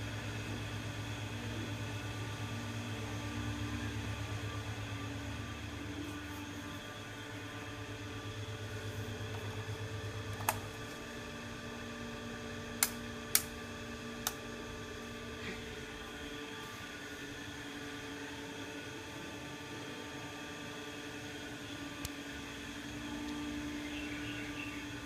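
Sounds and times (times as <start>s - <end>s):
ceiling fan motor hum: 0.0s - 25.0s.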